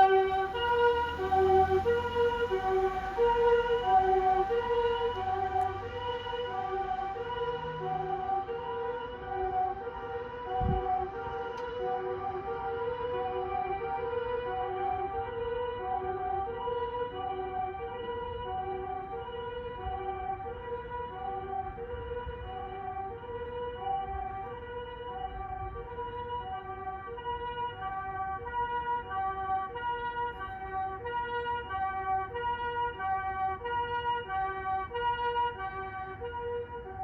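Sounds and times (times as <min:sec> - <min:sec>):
ambulance siren two-tone call: 0:00.0 - 0:37.0
low road rumble: 0:00.0 - 0:37.0.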